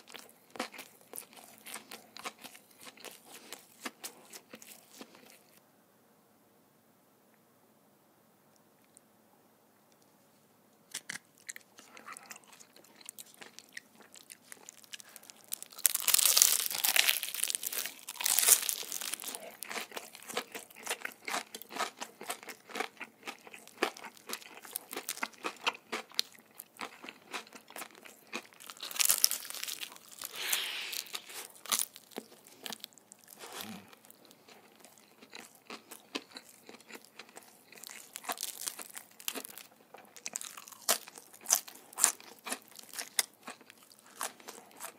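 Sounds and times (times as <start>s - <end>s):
crunching bites of fried chicken: 0.0s - 5.6s, 10.9s - 44.9s.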